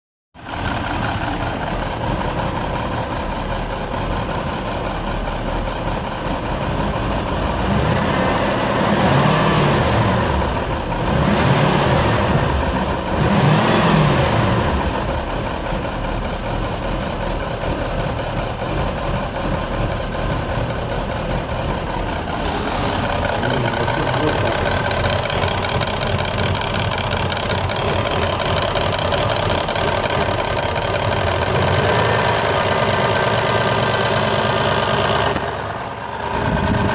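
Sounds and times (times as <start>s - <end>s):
engine knocking and revving: 0.4s - 36.9s.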